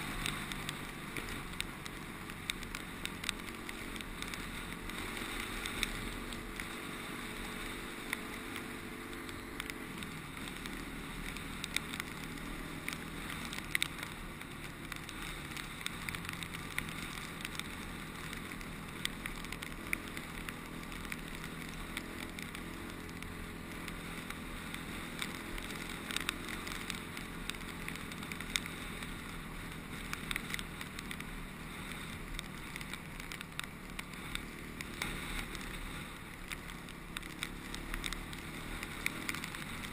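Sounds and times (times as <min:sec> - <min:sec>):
gravel ticking: 0:00.0 - 0:39.9
motorcycle engine running: 0:00.0 - 0:39.9.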